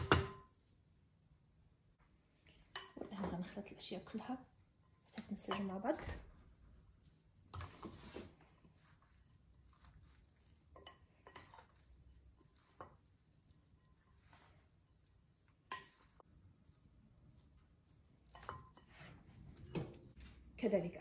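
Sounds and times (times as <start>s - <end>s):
wooden spoons stirring in bowl: 2.3s - 20.6s.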